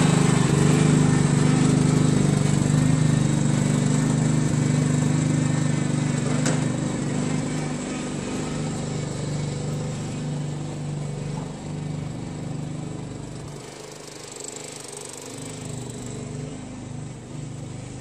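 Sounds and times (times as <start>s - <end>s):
lawn tractor engine running: 0.0s - 18.0s.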